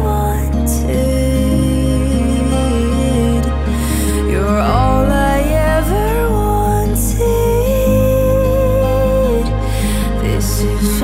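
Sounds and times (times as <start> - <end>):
gentle song with low beat: 0.0 - 11.0.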